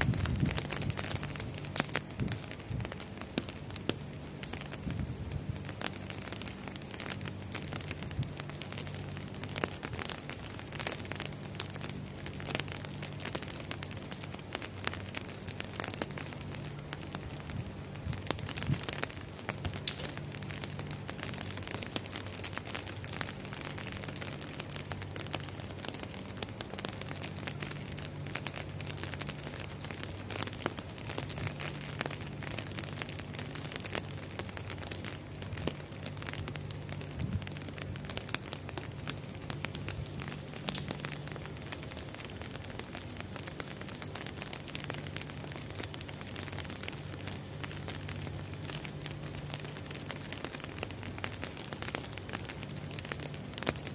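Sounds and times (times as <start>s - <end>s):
heavy rain on glass: 0.0s - 53.9s.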